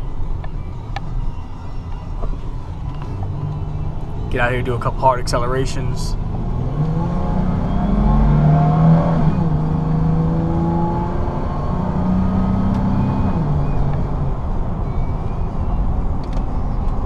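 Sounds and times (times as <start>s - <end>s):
engine accelerating hard with gear shifts: 0.0s - 17.0s.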